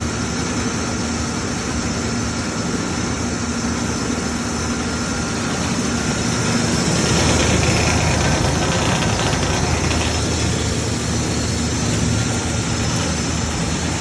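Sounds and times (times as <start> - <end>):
mill machinery humming: 0.0 - 14.0.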